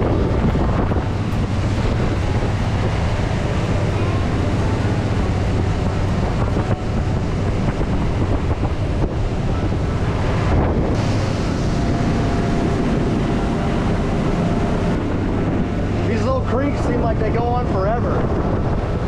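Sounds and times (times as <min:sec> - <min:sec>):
outboard motor drone: 0:00.0 - 0:19.0
rushing water: 0:00.0 - 0:19.0
wind buffeting microphone: 0:00.0 - 0:19.0.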